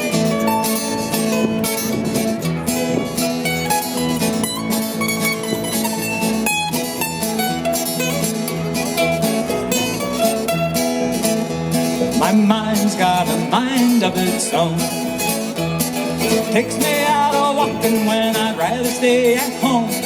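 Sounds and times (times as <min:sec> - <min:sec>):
picked mandolin: 0:00.0 - 0:20.0
strummed acoustic guitar: 0:00.0 - 0:20.0
upright bass: 0:00.0 - 0:20.0.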